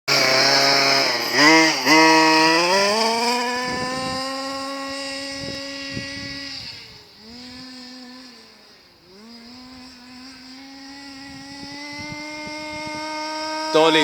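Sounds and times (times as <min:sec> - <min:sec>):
model car engine revving: 0:00.1 - 0:14.0.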